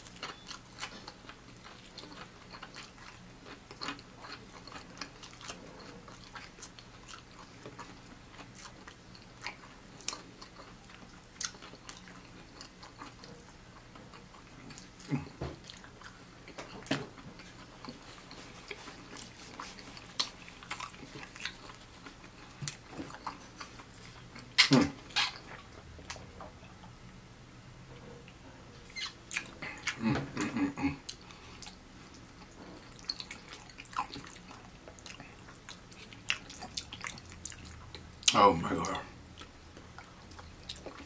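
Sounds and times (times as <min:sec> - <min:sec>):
chewing and biting food: 0:00.0 - 0:26.9, 0:28.3 - 0:41.0.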